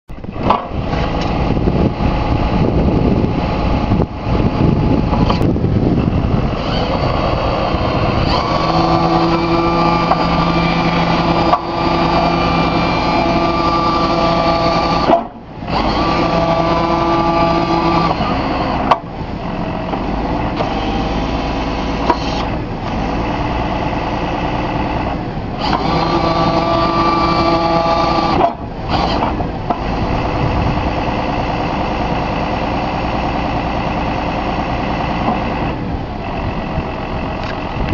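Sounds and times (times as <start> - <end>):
forklift engine running: 0.1 - 37.9
hydraulic whine: 0.2 - 37.9.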